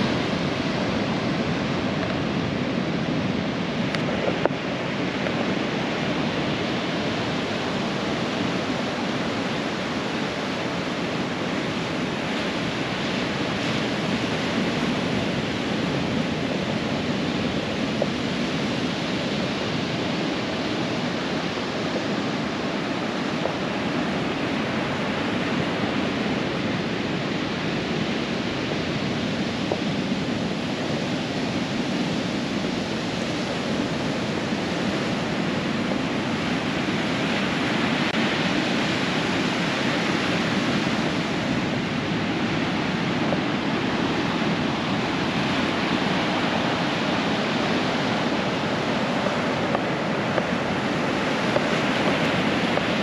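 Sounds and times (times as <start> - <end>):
ocean waves breaking on sand: 0.0 - 53.0.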